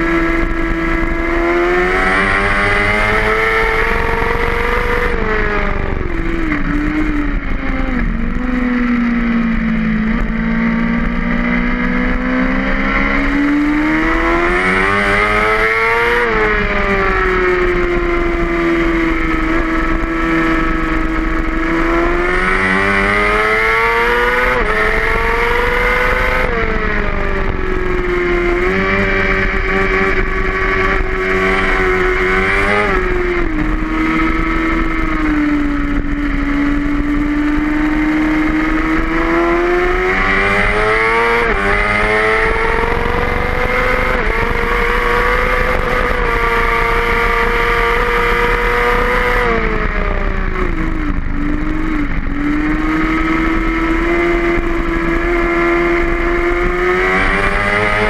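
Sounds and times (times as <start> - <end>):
race motorcycle engine revving: 0.0 - 58.0
wind rushing over microphone: 0.0 - 58.0.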